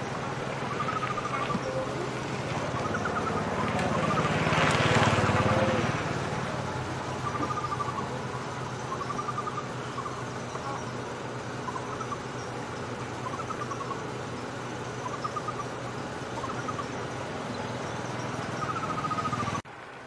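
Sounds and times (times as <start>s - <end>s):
short wavering animal calls: 0.0s - 4.4s, 5.2s - 19.6s
chorus of crickets: 0.0s - 19.6s
rush of noise with low hum: 0.0s - 20.0s.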